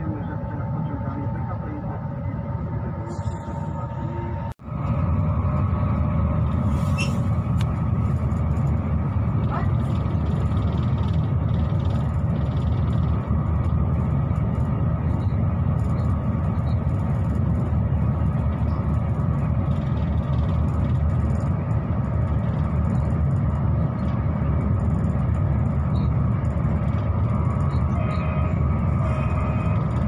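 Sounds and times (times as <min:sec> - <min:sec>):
train rumble inside carriage: 0:00.0 - 0:30.0.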